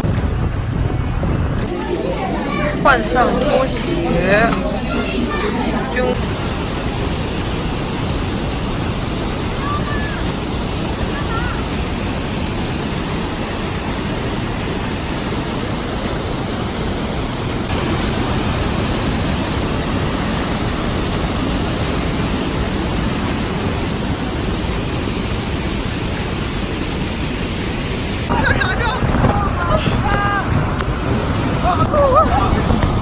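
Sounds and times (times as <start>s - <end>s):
waterfall roaring: 1.6s - 28.4s, 29.2s - 33.0s.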